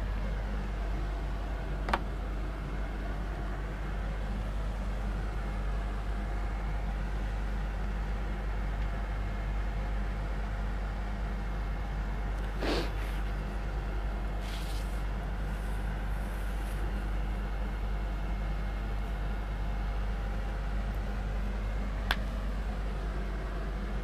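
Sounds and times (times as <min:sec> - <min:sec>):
room hum and hiss: 0:00.0 - 0:24.0.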